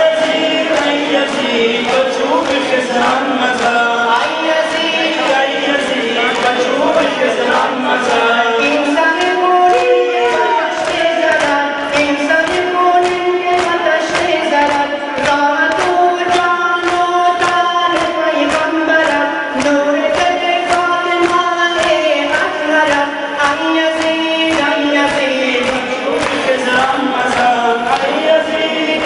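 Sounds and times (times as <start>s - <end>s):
crowd singing lament: 0.0s - 29.0s.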